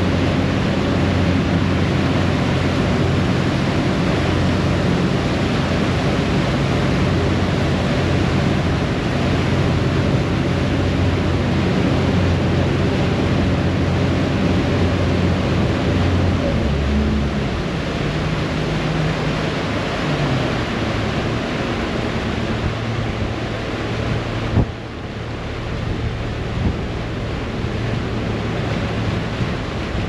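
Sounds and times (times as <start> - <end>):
ferry engines droning: 0.0 - 30.0
wake water rushing: 0.0 - 30.0.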